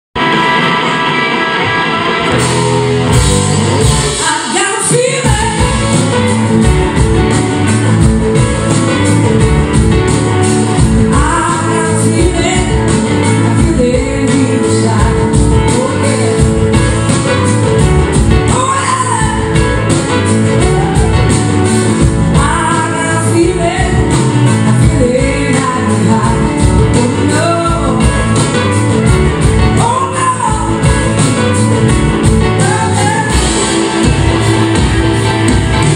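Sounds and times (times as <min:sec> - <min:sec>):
drums: 0:00.2 - 0:35.9
electric guitar: 0:00.2 - 0:35.9.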